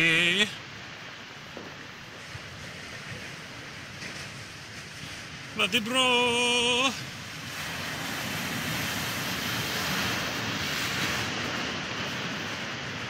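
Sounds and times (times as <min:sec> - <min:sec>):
waves washing over rocks: 0:00.0 - 0:13.0.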